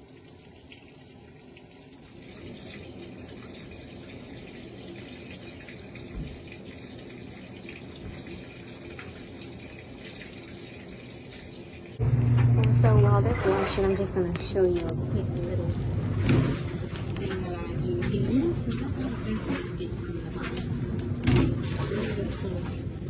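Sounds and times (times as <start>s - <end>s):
water rushing into washing machine: 0.0s - 23.0s.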